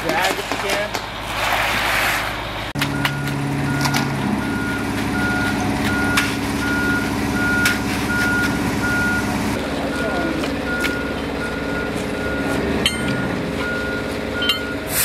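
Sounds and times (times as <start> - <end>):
truck engine running: 0.0 - 15.0
truck reversing alarm beeping: 2.4 - 15.0.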